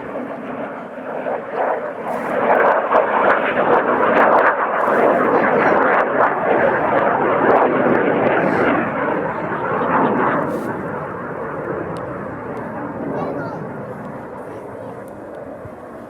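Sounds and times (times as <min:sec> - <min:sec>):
aircraft engine flying past: 0:00.0 - 0:16.0.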